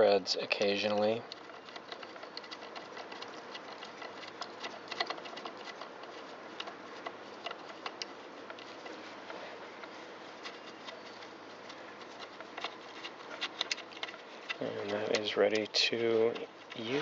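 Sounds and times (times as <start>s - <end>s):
thread tool clicking and scraping: 0.0s - 17.0s.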